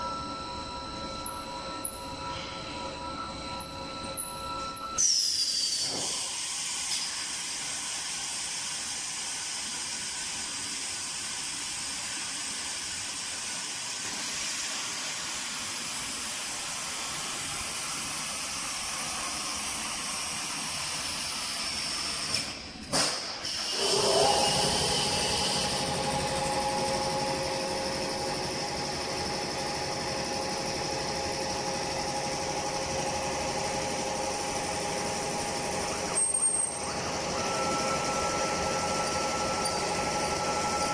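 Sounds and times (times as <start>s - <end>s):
machine noise with whine: 0.0s - 40.9s.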